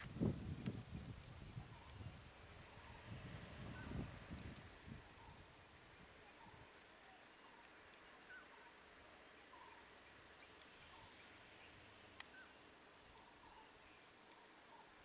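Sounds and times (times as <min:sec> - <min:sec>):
soft low bird chirping: 0:01.4 - 0:04.2, 0:04.8 - 0:15.0.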